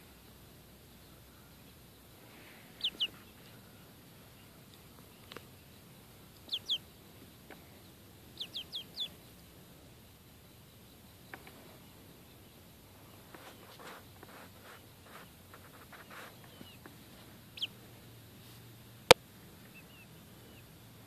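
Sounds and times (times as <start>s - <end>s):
chick peeping: 1.0s - 17.9s, 19.6s - 20.7s.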